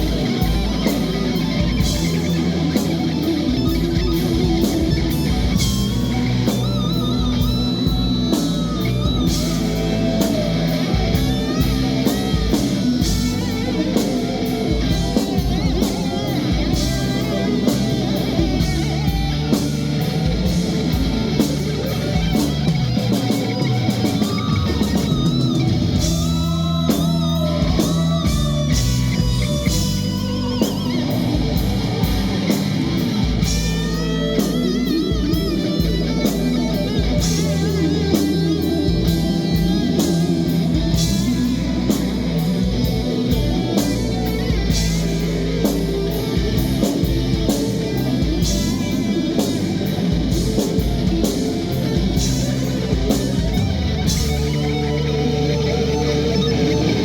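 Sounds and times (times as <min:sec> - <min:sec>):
drums and bass: 0:00.0 - 0:57.0
electric guitar bending pitch: 0:00.0 - 0:57.0.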